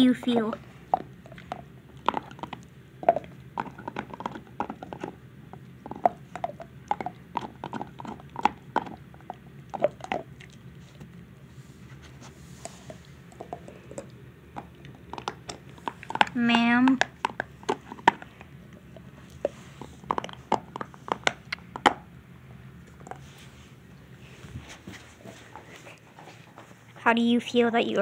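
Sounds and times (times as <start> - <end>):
dog gnawing on a chew: 0.3 - 11.3, 12.0 - 22.2, 22.8 - 24.2.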